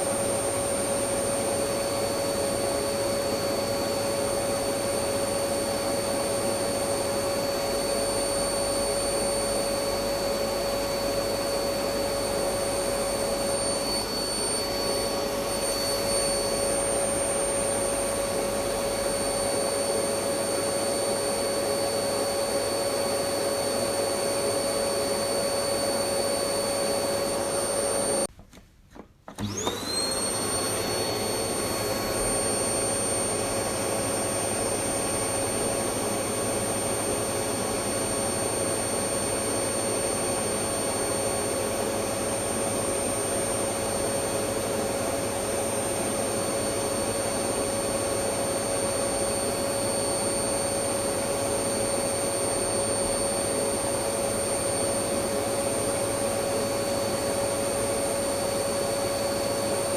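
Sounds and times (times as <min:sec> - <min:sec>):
vacuum cleaner running: 0:00.0 - 0:28.3, 0:28.9 - 0:59.9.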